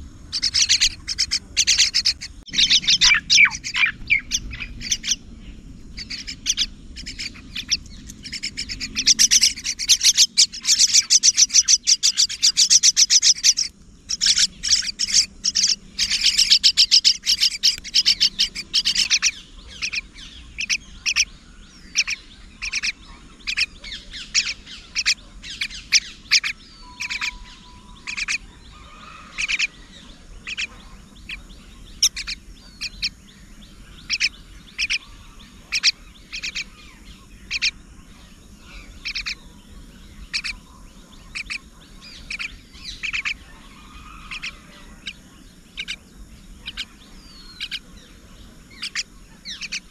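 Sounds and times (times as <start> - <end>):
mynas chirping: 0.0 - 49.9.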